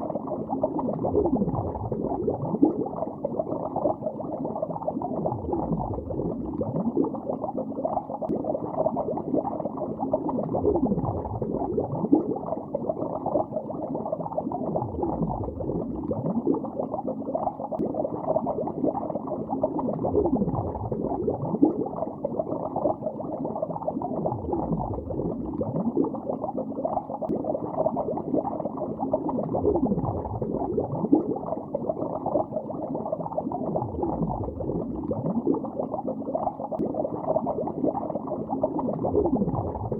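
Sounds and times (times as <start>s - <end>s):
underwater bubbling: 0.0s - 39.9s.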